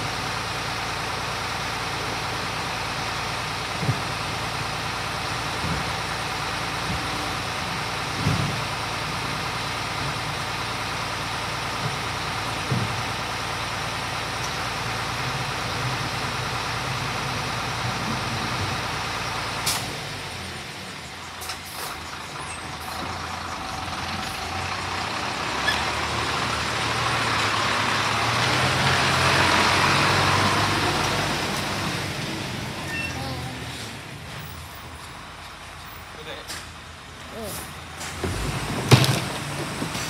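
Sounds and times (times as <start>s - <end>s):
truck diesel engine idling: 0.0s - 38.5s
truck driving past: 4.2s - 40.0s.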